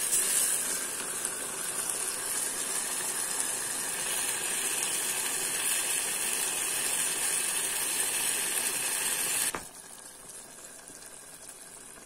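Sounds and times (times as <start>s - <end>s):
curry bubbling and sizzling in pot: 0.0s - 12.0s
faint simmer: 0.0s - 12.0s.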